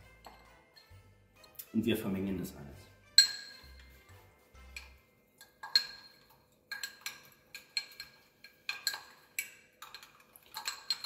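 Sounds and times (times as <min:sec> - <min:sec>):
metal spoon clinking glass bowl: 0:00.0 - 0:01.6, 0:03.1 - 0:11.0.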